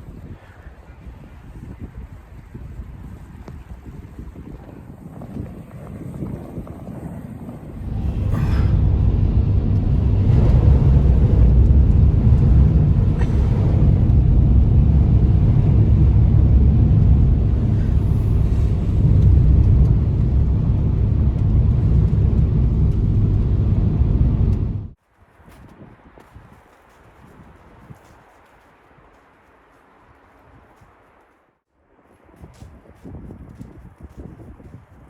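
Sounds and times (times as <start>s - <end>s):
wind buffeting microphone: 0.0s - 29.2s, 32.0s - 35.0s.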